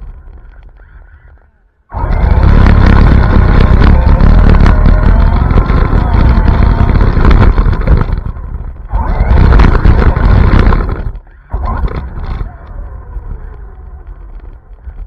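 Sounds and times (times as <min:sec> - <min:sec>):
wind buffeting: 0:00.0 - 0:15.0
tyre rumble on asphalt: 0:01.9 - 0:15.0.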